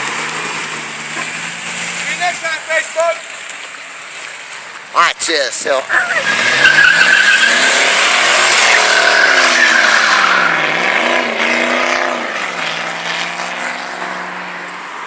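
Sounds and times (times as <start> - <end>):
tires squealing: 0.0 - 4.0, 5.7 - 15.0.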